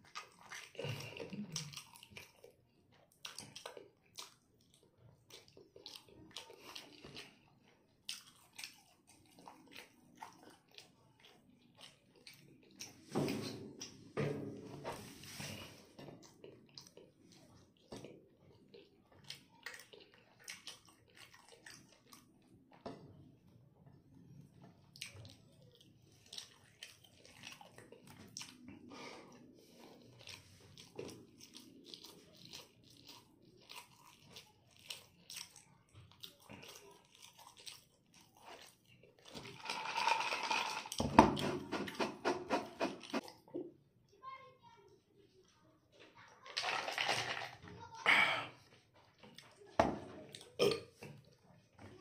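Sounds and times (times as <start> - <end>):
person chewing food: 0.0 - 14.2, 15.0 - 43.8, 48.1 - 51.7.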